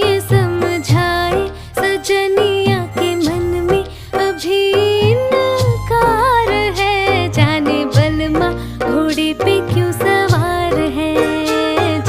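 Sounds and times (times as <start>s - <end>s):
instrumental music with bass beat: 0.0s - 12.0s
person singing: 0.0s - 12.0s.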